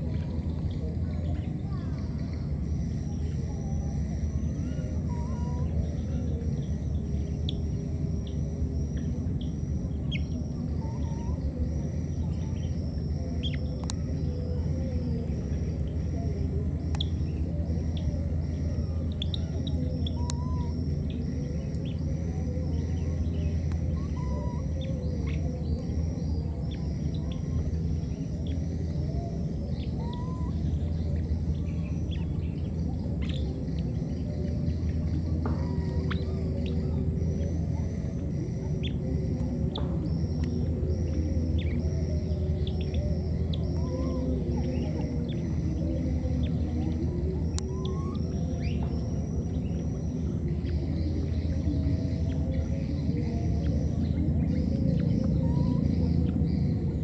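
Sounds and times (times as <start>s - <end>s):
faint whistle-like calls: 0.0s - 57.0s
low rumble: 0.0s - 57.0s
bird chirps: 0.1s - 57.0s.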